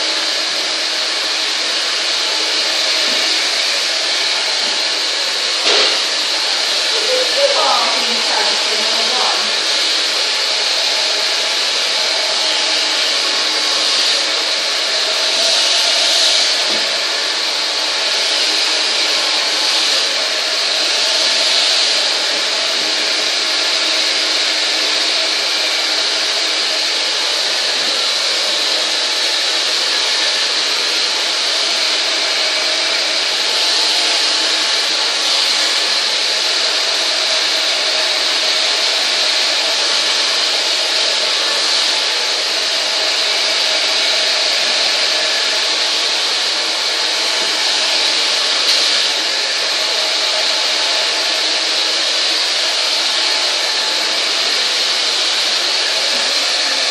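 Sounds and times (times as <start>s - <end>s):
hair dryer blowing: 0.0s - 56.9s.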